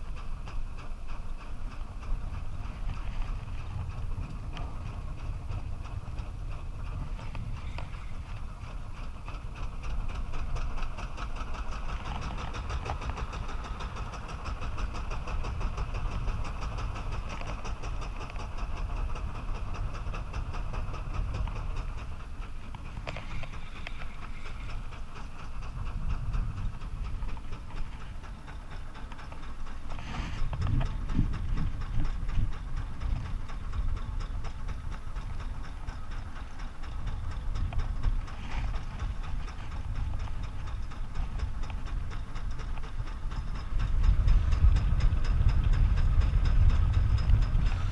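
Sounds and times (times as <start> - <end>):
boat engine running: 0.0 - 47.9
water rushing along hull: 0.0 - 47.9.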